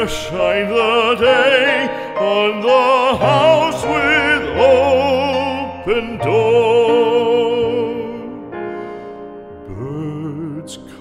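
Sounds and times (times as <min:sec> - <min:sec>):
classical singing with vibrato: 0:00.0 - 0:08.9, 0:09.6 - 0:11.0
instrumental accompaniment: 0:00.0 - 0:10.7.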